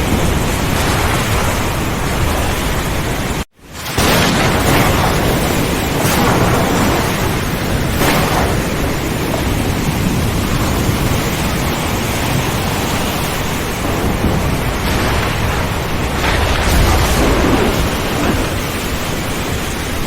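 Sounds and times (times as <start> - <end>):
heavy rain: 0.0 - 20.0
low thunder rumbling: 0.0 - 20.0.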